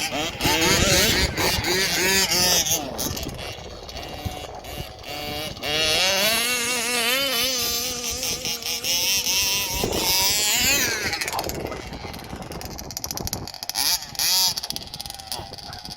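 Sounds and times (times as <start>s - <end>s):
two-stroke engine high buzz: 0.0s - 15.9s.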